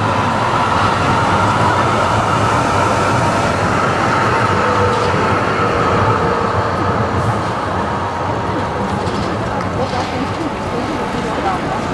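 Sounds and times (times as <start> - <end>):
tram rumbling past on rails: 0.0 - 11.9.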